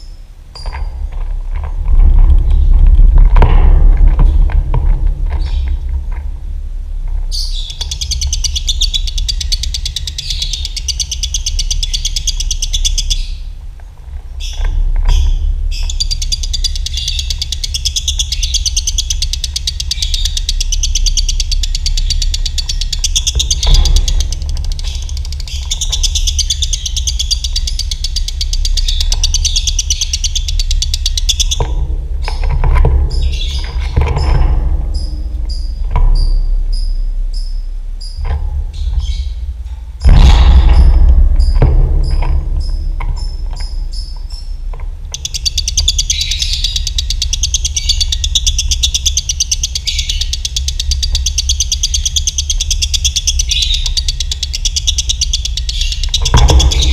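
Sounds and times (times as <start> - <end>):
low hum: 0.0 - 56.9
bird rattling trills: 7.1 - 56.9
bird chirps: 7.3 - 13.6, 14.4 - 39.4, 41.4 - 56.9.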